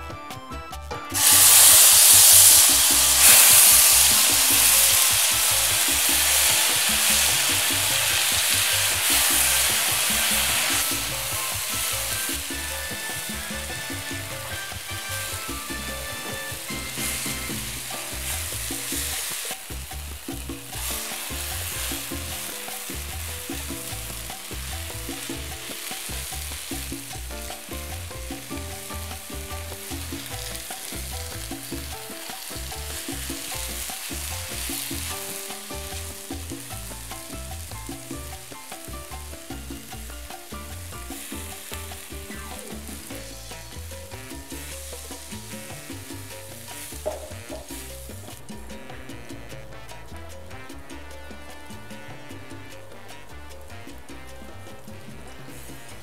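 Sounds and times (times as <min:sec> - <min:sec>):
paste sizzling in hot oil: 0:01.1 - 0:48.7, 0:55.2 - 0:56.0.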